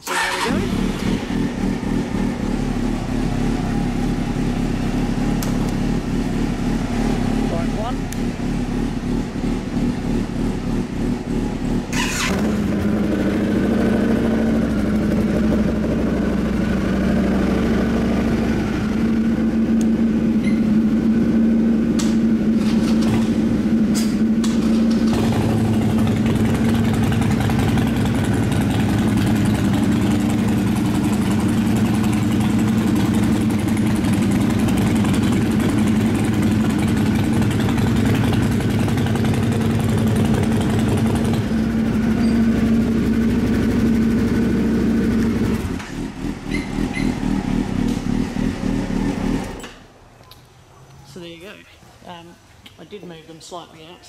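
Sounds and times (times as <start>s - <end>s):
motorcycles idling: 0.0s - 49.6s.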